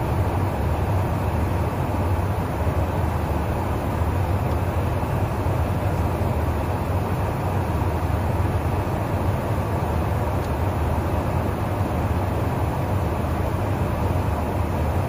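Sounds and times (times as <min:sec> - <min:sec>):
aircraft cabin engine drone: 0:00.0 - 0:15.0.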